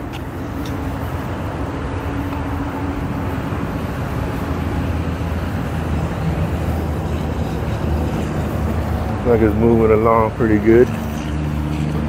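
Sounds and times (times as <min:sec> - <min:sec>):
car rumbling rolling slowly: 0:00.0 - 0:12.0.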